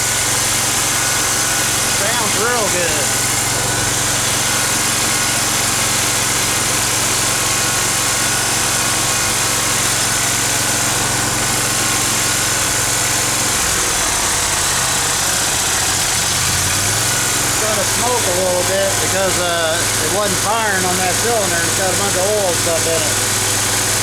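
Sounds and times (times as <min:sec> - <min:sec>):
mower engine idling: 0:00.0 - 0:24.0.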